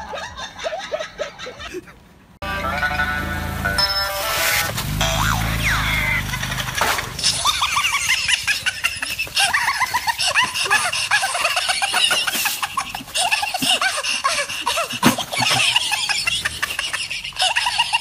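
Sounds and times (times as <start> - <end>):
high-pitched laughter: 0.0 - 2.1, 5.1 - 18.0.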